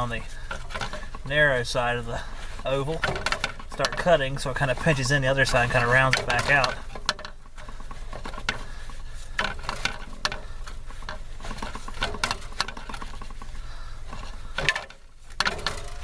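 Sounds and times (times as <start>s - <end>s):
tubing cutter clicking and scraping: 0.0s - 16.0s.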